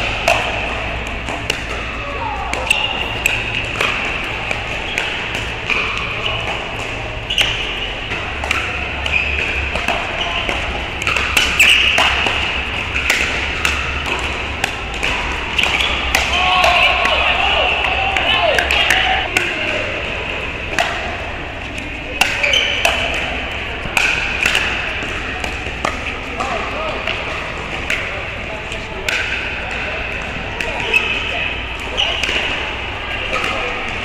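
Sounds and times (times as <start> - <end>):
steady background noise: 0.0 - 34.0.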